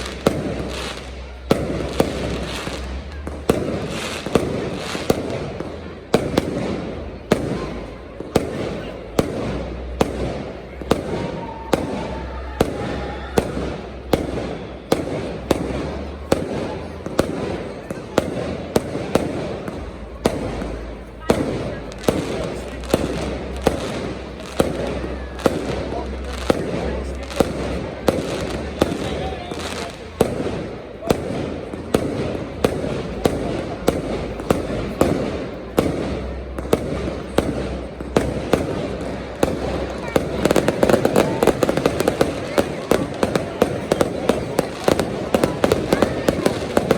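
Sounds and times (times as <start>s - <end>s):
fireworks crackling: 0.0s - 46.9s
fireworks loud bangs: 0.0s - 46.9s.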